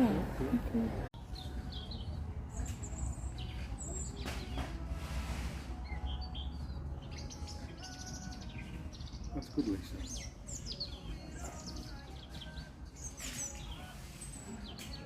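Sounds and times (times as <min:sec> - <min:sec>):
robin singing: 0:00.0 - 0:04.9, 0:05.8 - 0:15.0.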